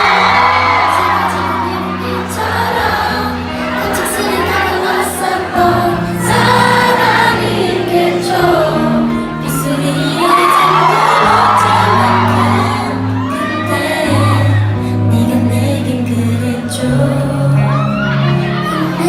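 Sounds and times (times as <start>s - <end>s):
female vocal group singing: 0.0s - 19.0s
held accompaniment chords: 0.0s - 19.0s.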